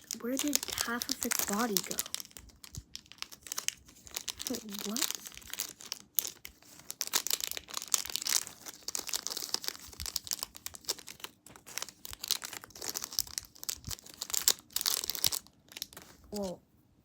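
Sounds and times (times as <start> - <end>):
plastic packaging crinkling and tearing: 0.0 - 16.6.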